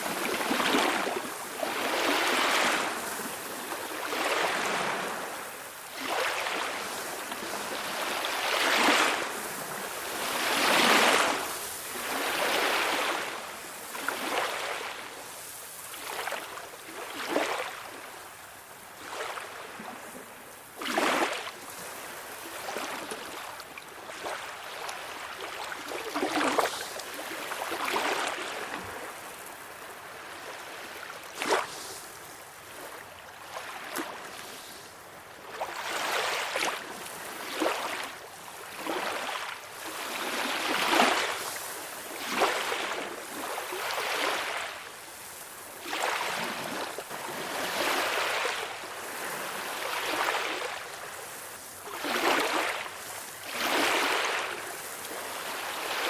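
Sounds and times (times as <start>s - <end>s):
sea waves lapping: 0.0s - 56.0s.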